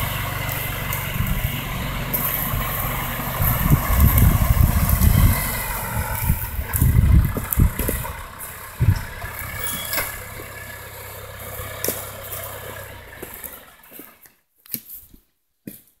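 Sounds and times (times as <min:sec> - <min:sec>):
diesel tractor engine running: 0:00.0 - 0:14.2
tree trunk dragging: 0:00.0 - 0:14.3.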